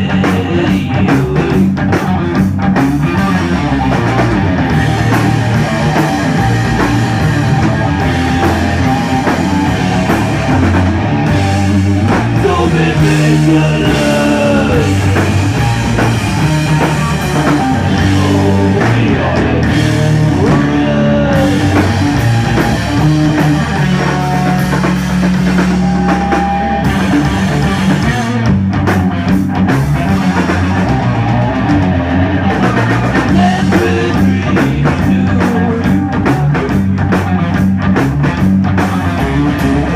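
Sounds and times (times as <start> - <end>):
drum kit: 0.0 - 39.9
loud guitar riffs: 0.0 - 39.9.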